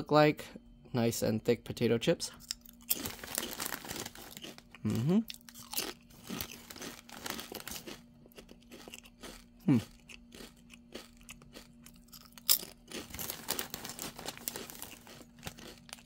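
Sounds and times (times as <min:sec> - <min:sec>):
chewing crunchy potato chips: 0:02.4 - 0:16.0.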